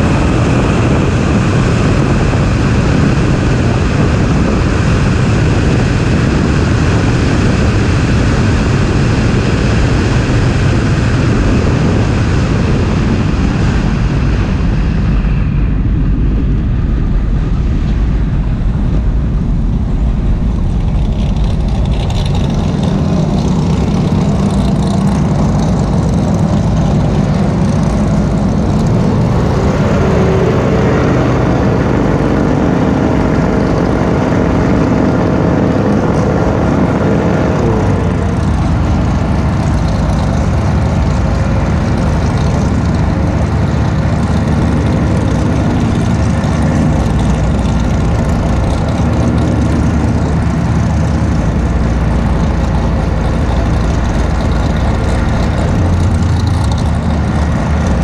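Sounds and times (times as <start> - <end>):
car engine: 0.0 - 58.0
wind rush: 0.0 - 58.0.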